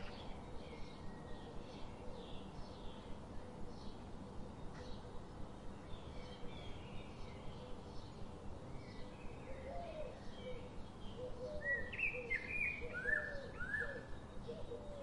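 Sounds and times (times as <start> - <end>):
faint background hiss: 0.0 - 15.0
small birds chirping: 0.0 - 15.0.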